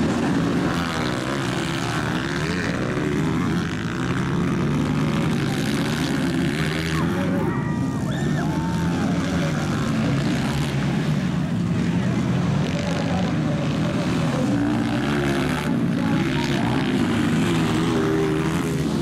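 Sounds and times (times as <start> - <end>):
dirt bike engines racing: 0.0 - 19.0.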